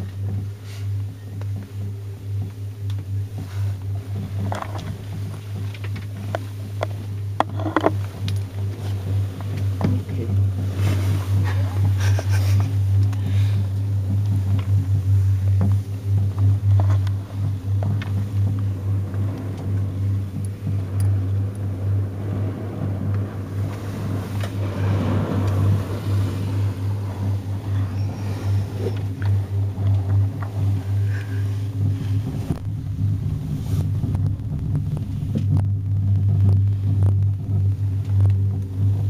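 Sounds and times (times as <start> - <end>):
tram cabin hum and rumble: 0.0 - 39.0.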